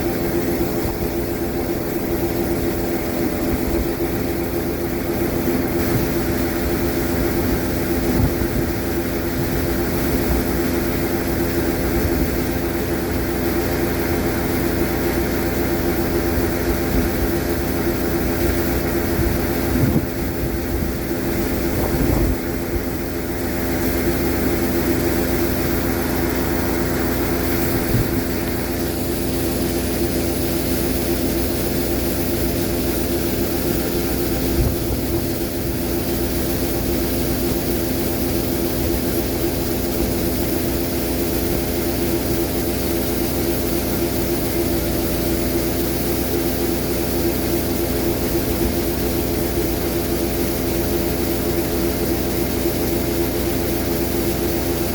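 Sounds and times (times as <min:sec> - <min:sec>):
large diesel machinery droning: 0:00.0 - 0:54.9.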